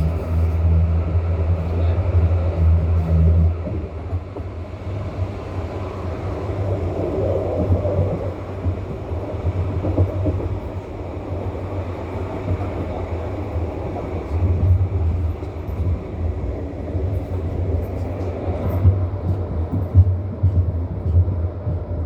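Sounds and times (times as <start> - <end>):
tram wheels rumbling: 0.0 - 22.0.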